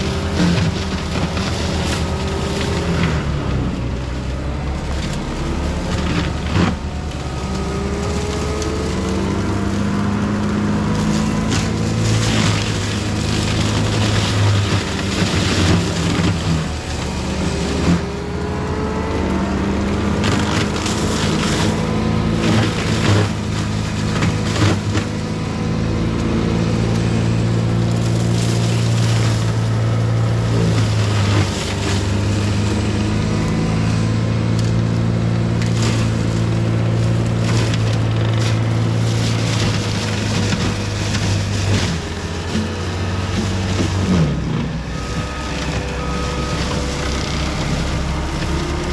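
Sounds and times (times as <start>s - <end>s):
diesel engine under load: 0.0s - 48.9s
mulcher grinding brush: 0.0s - 48.9s
wood cracking and snapping: 0.0s - 48.9s.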